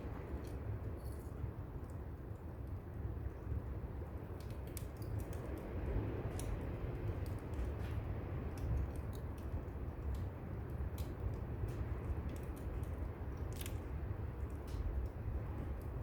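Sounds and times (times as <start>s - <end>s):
firewood crackling and popping: 1.7s - 16.0s.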